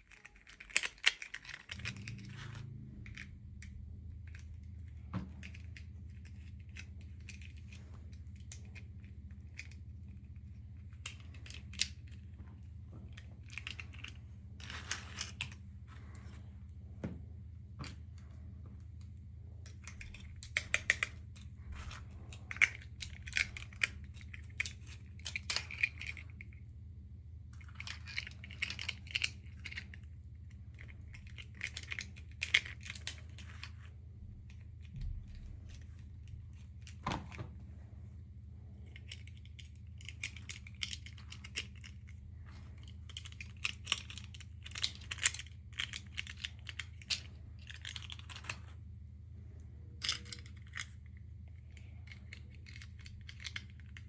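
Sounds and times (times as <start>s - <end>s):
clicks of small plastic pieces: 0.0s - 16.5s, 19.0s - 26.6s, 27.5s - 37.5s, 38.7s - 48.8s, 49.8s - 54.0s
steady low hum: 0.0s - 54.0s.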